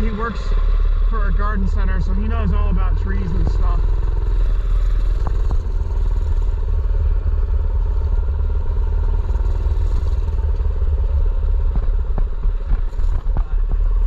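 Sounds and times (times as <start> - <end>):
small engine running: 0.0 - 14.0
wind rumble on microphone: 0.0 - 14.0.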